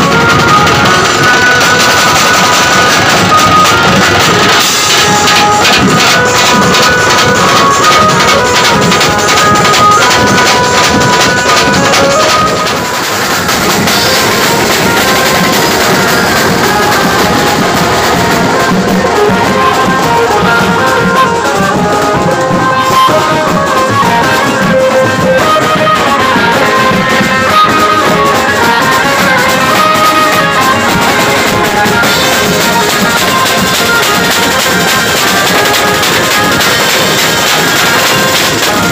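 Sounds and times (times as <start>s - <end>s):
band playing loud fast music: 0.0s - 38.9s
snare drums and cymbals: 0.0s - 38.9s.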